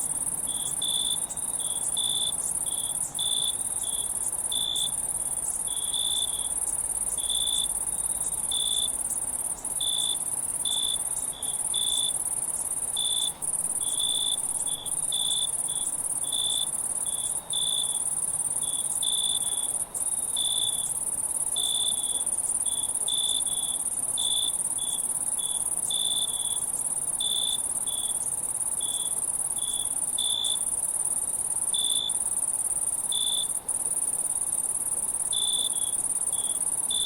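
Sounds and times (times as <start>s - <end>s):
high-pitched insect trill: 0.1s - 37.0s
lower insect chirps: 0.1s - 37.0s.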